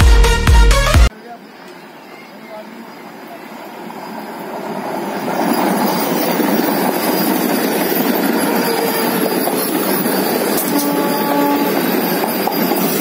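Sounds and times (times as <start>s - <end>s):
train wheels rushing on rails: 2.6s - 13.0s.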